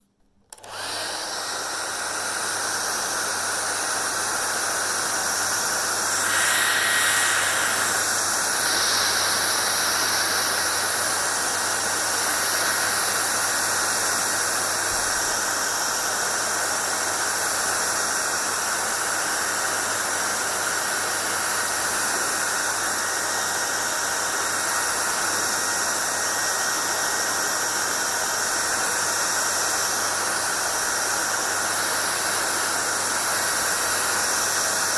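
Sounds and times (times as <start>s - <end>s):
hair dryer blowing air: 0.4s - 34.9s
hair dryer motor hum: 0.4s - 34.9s.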